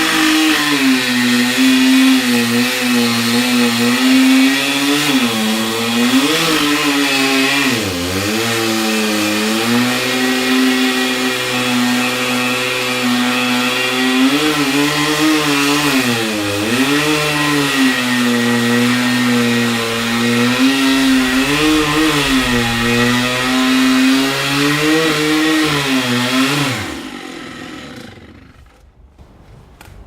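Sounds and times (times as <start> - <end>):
chainsaw engine running: 0.0 - 28.6.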